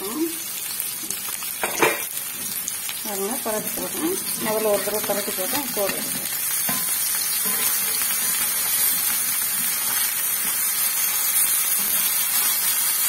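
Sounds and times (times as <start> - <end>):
fish frying in oil: 0.0 - 13.0.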